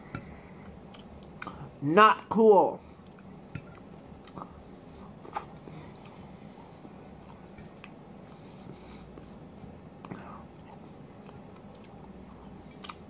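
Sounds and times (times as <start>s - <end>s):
soft chewing: 0.0s - 1.8s, 2.8s - 13.0s.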